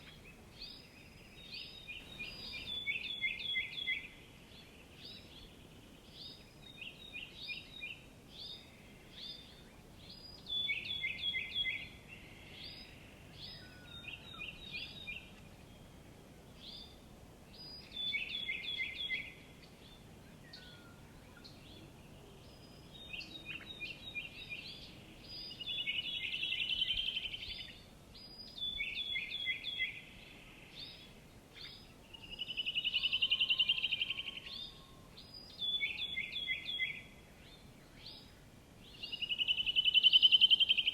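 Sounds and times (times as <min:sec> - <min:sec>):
small songbirds singing: 0:00.0 - 0:40.9.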